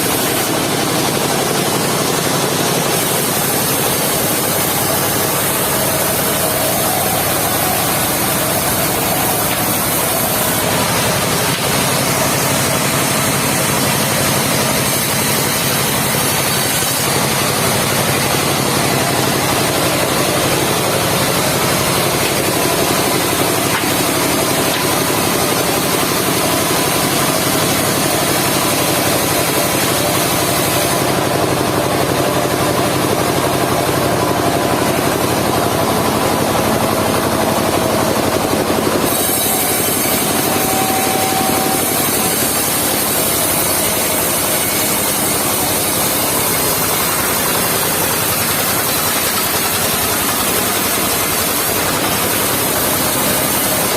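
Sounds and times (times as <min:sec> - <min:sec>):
circular sawmill cutting log: 0:00.0 - 0:53.9.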